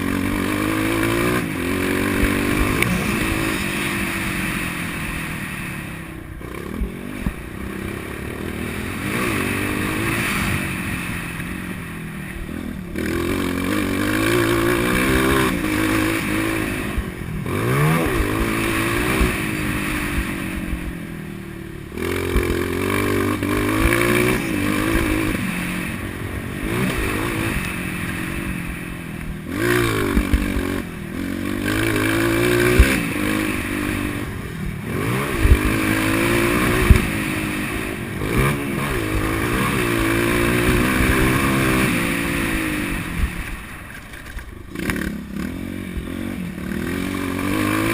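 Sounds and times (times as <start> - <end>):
motocross engine revving: 0.0 - 47.9.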